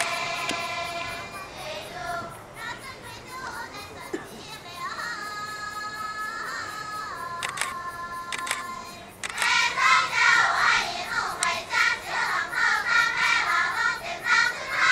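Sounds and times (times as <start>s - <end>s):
women's choir singing: 0.0s - 14.9s.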